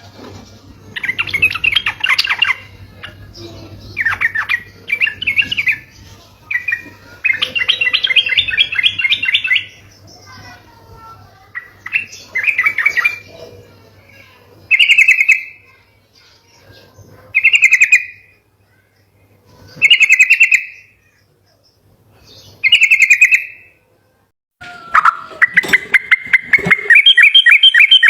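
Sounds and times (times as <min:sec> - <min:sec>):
bulbul chattering song: 0:00.9 - 0:18.4, 0:19.8 - 0:21.2, 0:21.8 - 0:23.8, 0:24.6 - 0:28.0.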